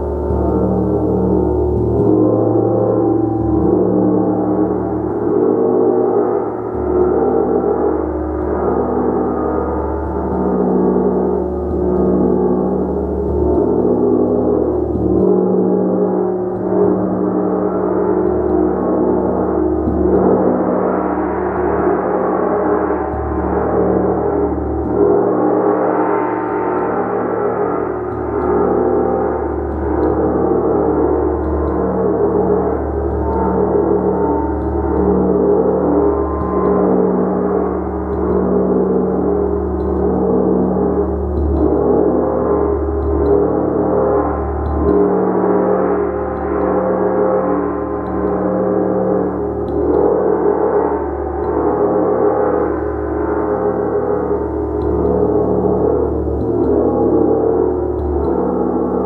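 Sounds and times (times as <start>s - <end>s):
gong struck with a mallet: 0.0s - 59.0s.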